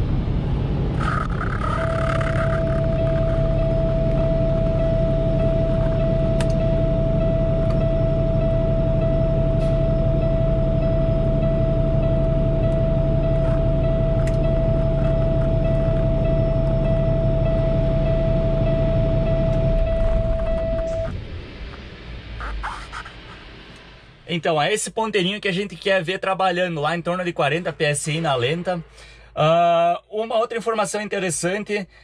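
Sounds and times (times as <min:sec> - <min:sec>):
diesel engine idling: 0:00.0 - 0:24.4, 0:26.8 - 0:29.7
steady high tone: 0:00.9 - 0:29.8.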